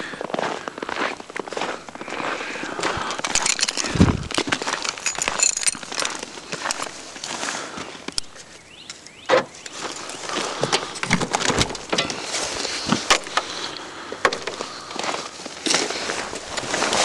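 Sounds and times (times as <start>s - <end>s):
footsteps crunching through snow: 0.0s - 13.7s, 14.5s - 17.0s.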